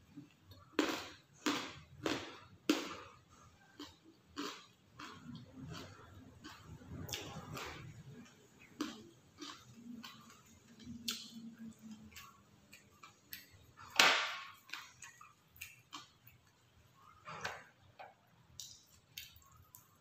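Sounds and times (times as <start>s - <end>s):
chewing and mouth clicks: 0.2s - 17.4s, 18.5s - 20.0s.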